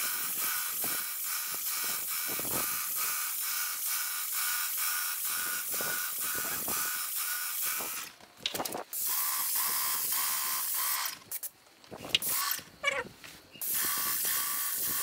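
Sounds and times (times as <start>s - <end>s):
hiss of paint spray: 0.0s - 8.1s, 8.9s - 11.5s, 12.1s - 12.6s, 13.6s - 15.0s.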